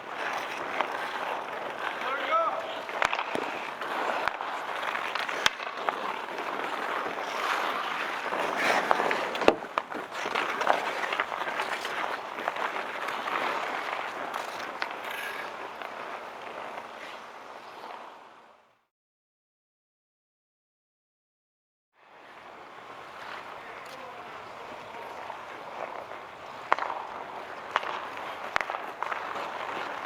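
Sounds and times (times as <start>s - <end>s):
hockey sticks clacking: 0.0s - 18.2s, 22.3s - 30.0s
ice hockey play noise: 0.0s - 18.8s, 22.0s - 30.0s.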